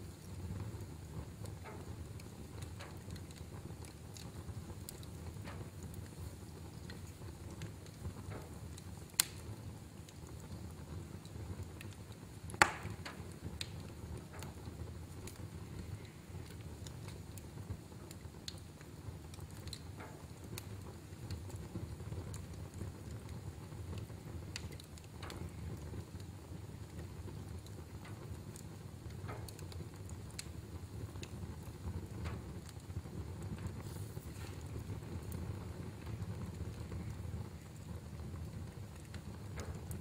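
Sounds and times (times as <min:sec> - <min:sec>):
fireplace fire crackling: 0:00.0 - 0:40.0
sharp pops of burning wood: 0:00.0 - 0:40.0.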